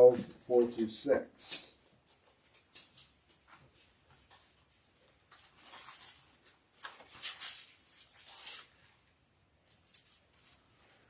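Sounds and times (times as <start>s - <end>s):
paper pages rustling: 1.5s - 11.0s.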